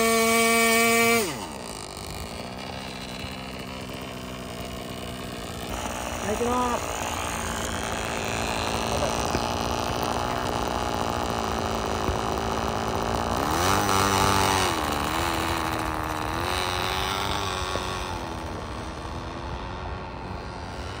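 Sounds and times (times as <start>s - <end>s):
model plane engine running: 0.0s - 21.0s.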